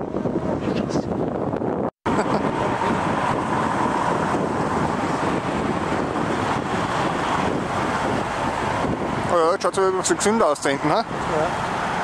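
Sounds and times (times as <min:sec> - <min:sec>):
highway traffic hum: 0:00.0 - 0:12.0
wind rushing over microphone: 0:00.0 - 0:12.0.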